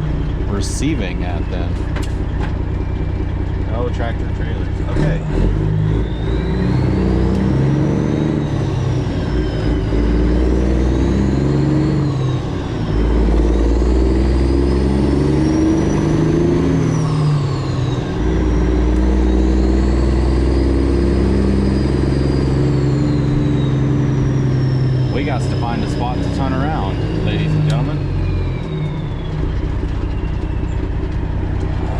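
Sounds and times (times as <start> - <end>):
truck diesel engine under load: 0.0 - 31.9.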